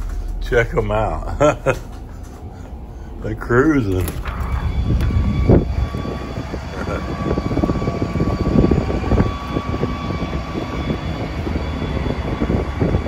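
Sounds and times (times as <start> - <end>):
airplane engines droning: 0.0 - 13.0.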